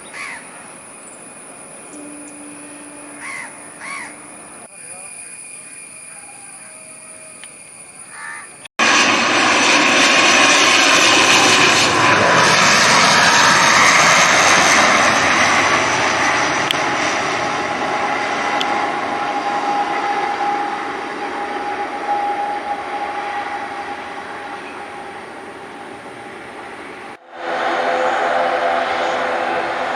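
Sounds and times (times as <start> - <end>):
jet engine whine: 0.0 - 29.9
jet engines rumbling: 0.0 - 29.9.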